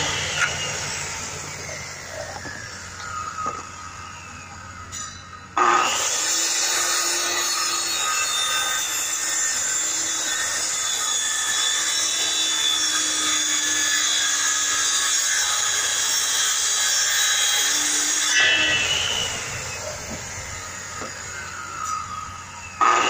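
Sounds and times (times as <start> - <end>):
circular saw cutting wood: 0.0 - 23.0.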